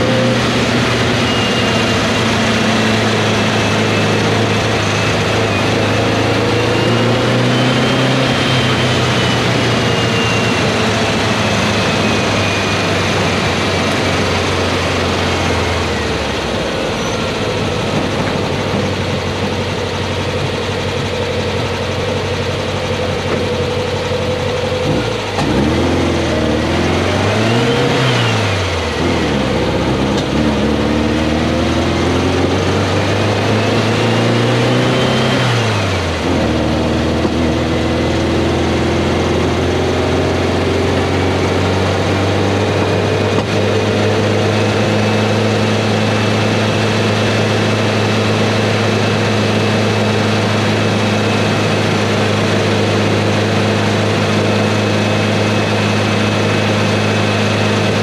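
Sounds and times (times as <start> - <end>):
car engine under way: 0.0 - 58.0
road and wind noise: 0.0 - 58.0.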